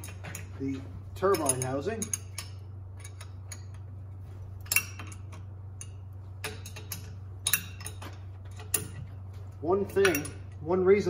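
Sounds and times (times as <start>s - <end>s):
metal wrench clinking on bolts: 0.0s - 3.9s, 4.6s - 9.1s, 9.7s - 10.7s
low hum: 0.0s - 11.0s.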